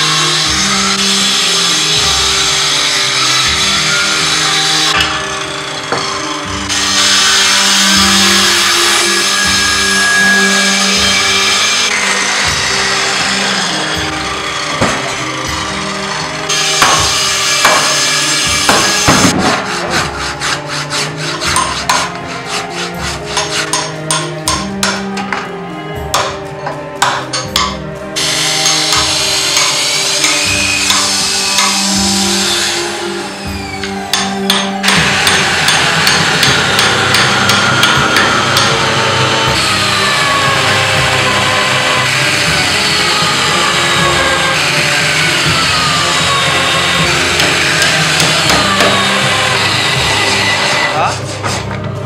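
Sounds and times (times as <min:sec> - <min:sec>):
hand saw cutting timber: 0:00.0 - 0:25.3, 0:27.0 - 0:51.9
hammer blows: 0:00.0 - 0:25.5, 0:27.0 - 0:52.0
workshop machine noise: 0:00.0 - 0:52.0.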